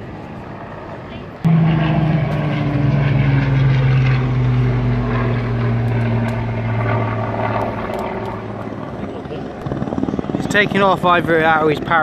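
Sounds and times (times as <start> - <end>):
aircraft engine humming: 0.0 - 12.0.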